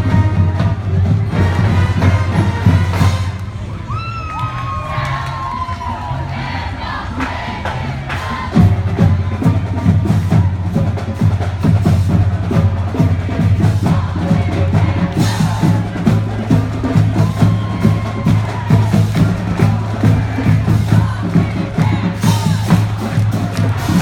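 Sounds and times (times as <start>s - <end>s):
drums beating: 0.0s - 24.0s
marching band playing: 0.0s - 24.0s.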